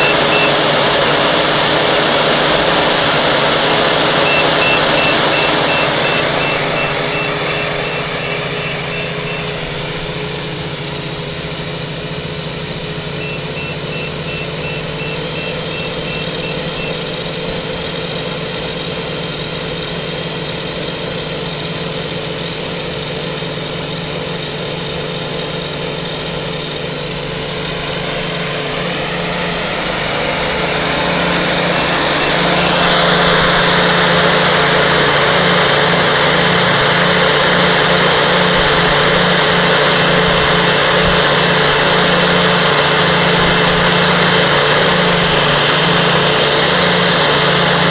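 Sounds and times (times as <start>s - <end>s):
drone motors whirring: 0.0s - 47.9s.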